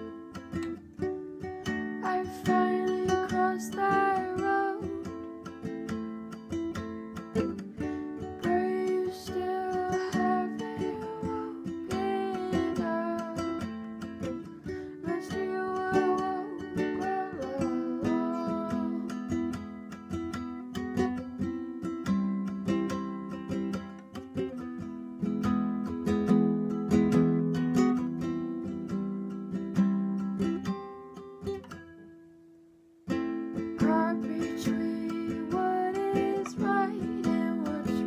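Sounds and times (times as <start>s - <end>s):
strummed ukulele chords: 0.0s - 32.0s, 33.1s - 38.0s.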